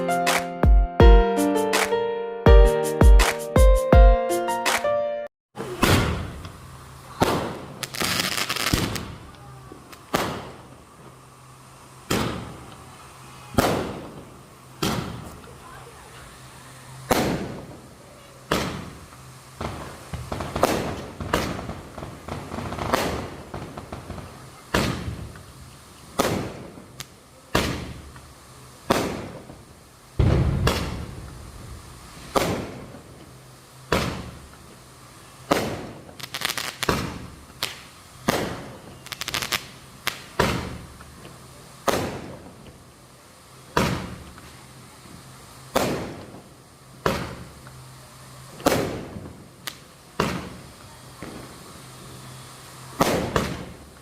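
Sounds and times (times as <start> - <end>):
firecrackers bursting: 0.0 - 0.6, 5.6 - 54.0.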